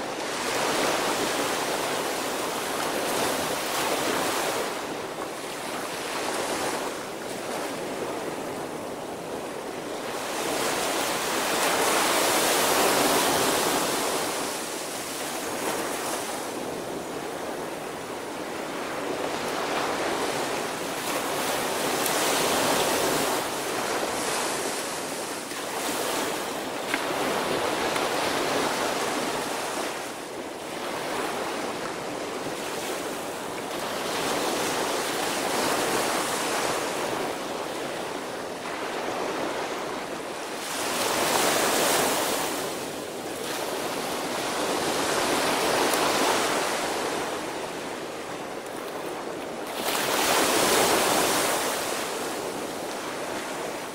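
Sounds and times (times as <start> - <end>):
ocean waves breaking on beach: 0.0 - 53.9.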